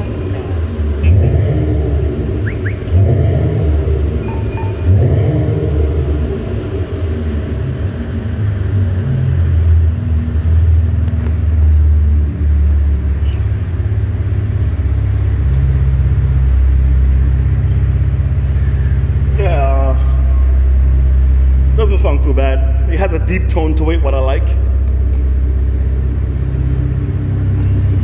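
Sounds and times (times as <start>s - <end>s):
car exhaust deep tone: 0.0s - 28.0s.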